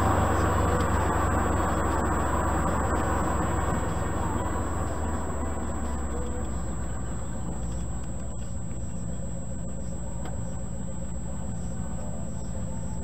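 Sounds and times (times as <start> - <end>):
car engine humming: 0.0 - 13.0
road noise inside car: 0.0 - 13.0.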